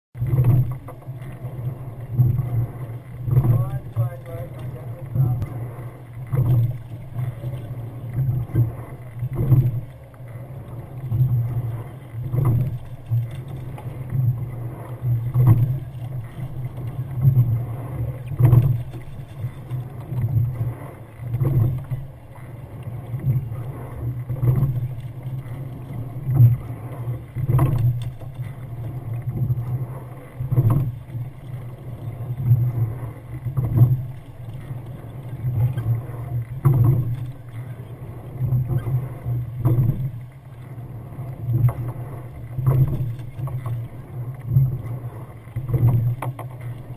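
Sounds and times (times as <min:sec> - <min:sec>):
oar strokes surging and thudding: 0:00.1 - 0:46.9
water rushing along hull: 0:00.1 - 0:46.9.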